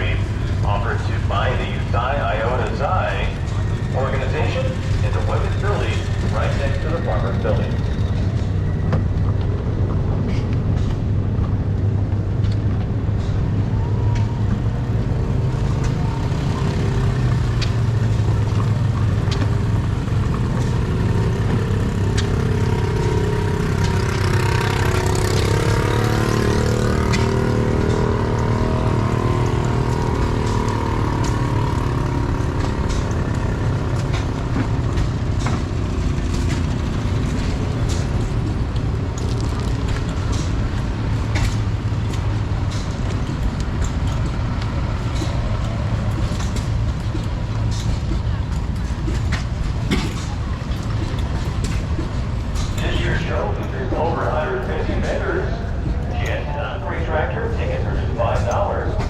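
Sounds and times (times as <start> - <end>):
engine running steadily: 0.0 - 59.0
rushing noise: 0.0 - 59.0.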